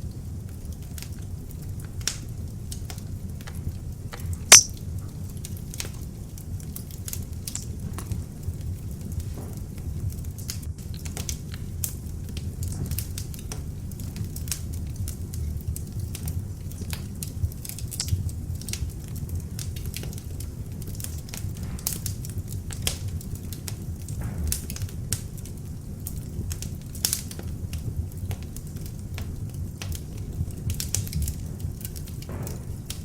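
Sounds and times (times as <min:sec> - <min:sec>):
log fire crackling: 0:00.0 - 0:33.0.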